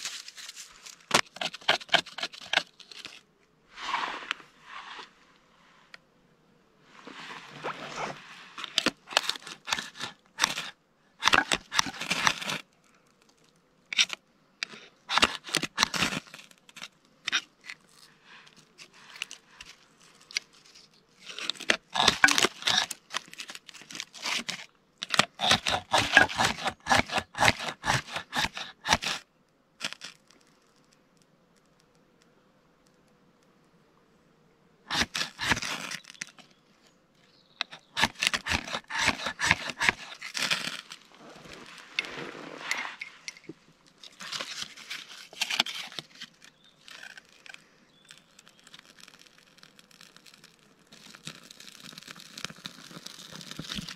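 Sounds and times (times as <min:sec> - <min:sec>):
tinder scraping and rustling: 0:00.0 - 0:06.0, 0:06.8 - 0:31.0, 0:34.9 - 0:53.9.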